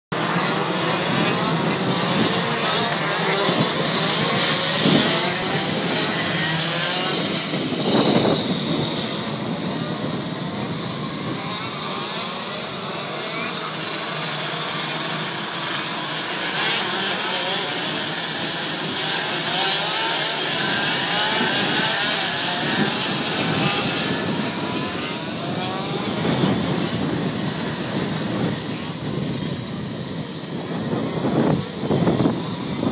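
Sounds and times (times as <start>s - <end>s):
go-kart engines revving: 0.1s - 32.9s.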